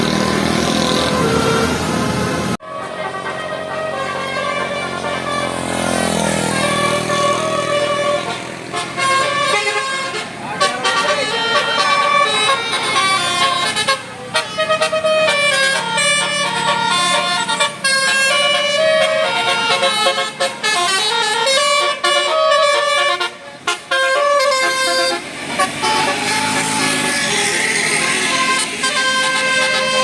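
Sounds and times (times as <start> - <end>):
bus musical horn playing melody: 0.0 - 30.0.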